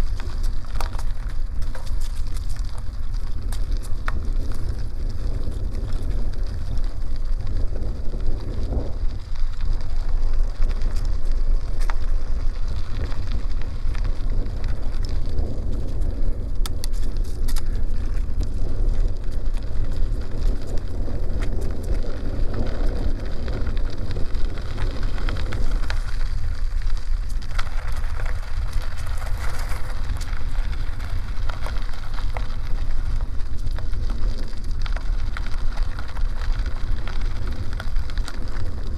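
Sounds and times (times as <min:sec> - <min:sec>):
bicycle tyres on gravel: 0:00.0 - 0:38.9
grit clicks under tyres: 0:00.0 - 0:38.9
wind rumbling on microphone: 0:00.0 - 0:38.9.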